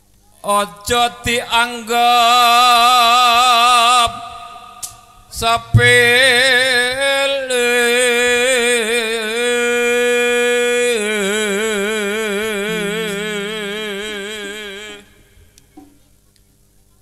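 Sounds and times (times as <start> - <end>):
person singing long note: 0.4 - 15.5.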